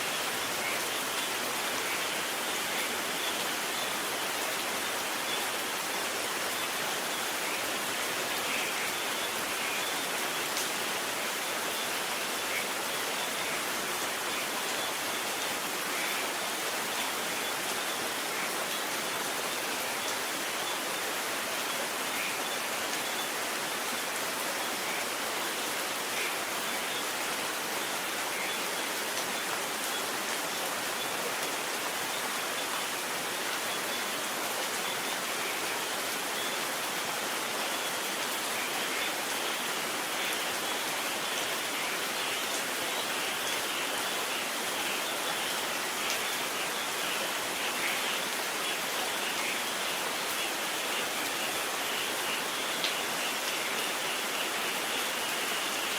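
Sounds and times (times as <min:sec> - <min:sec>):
rain falling: 0:00.0 - 0:55.9.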